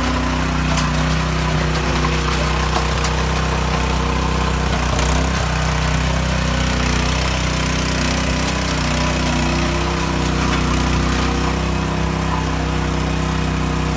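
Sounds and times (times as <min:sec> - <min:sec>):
small petrol engine running: 0:00.0 - 0:13.9
tines churning wet concrete: 0:00.0 - 0:13.9.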